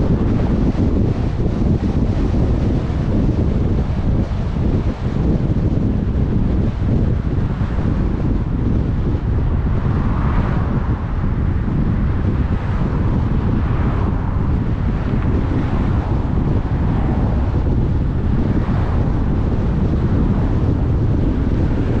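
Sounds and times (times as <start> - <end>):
car road and wind noise: 0.0 - 22.0.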